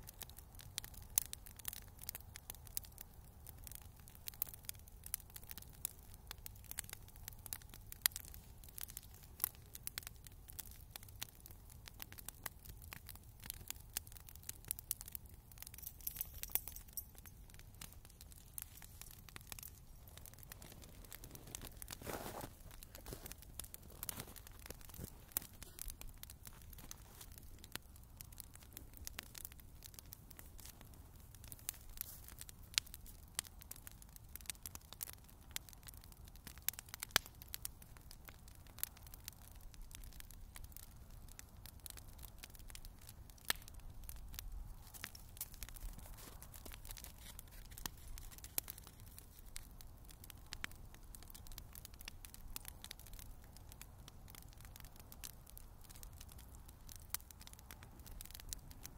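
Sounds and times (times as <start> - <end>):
bonfire crackling: 0.0 - 58.9.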